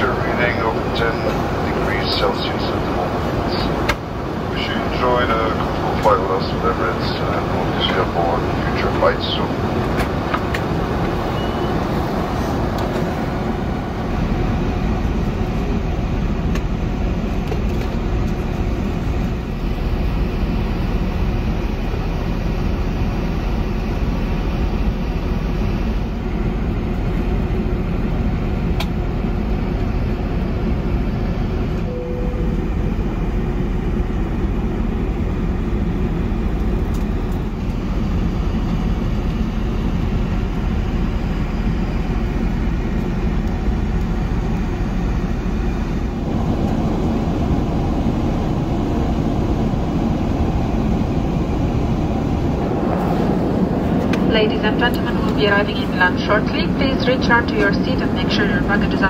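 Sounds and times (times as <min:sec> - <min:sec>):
airliner cabin noise: 0:00.0 - 0:59.0.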